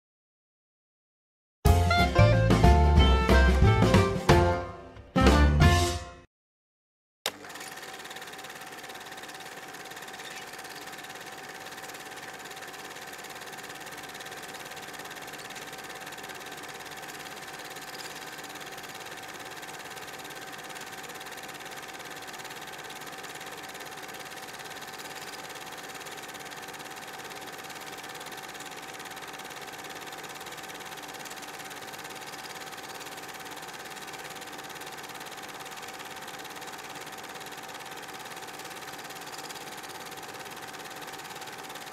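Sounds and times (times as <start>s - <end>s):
film projector whirring: 7.3s - 41.9s.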